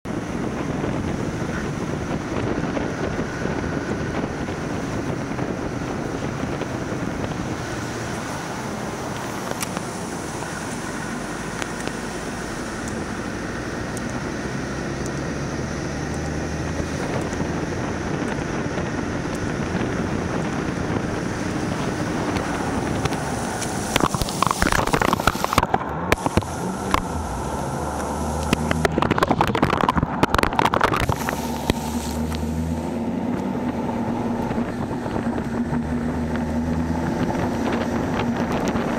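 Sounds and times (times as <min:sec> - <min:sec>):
car engine and tyre noise: 0:00.0 - 0:38.9
wind on microphone: 0:00.0 - 0:38.9
water splashing over vehicle: 0:00.1 - 0:38.9.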